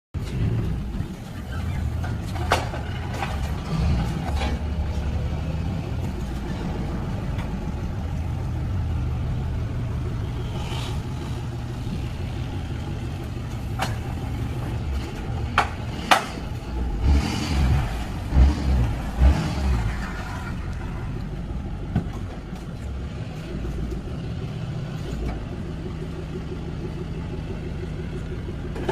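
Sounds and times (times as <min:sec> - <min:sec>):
tow truck engine running: 0:00.2 - 0:28.9.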